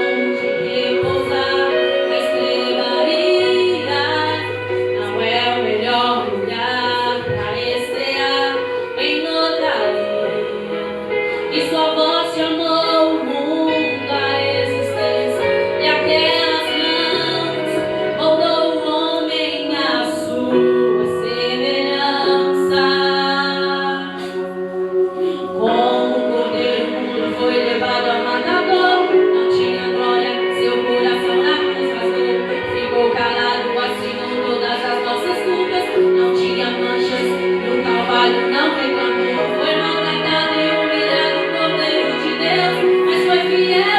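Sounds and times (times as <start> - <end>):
instrumental backing: 0.0 - 43.9
woman singing: 0.0 - 43.9.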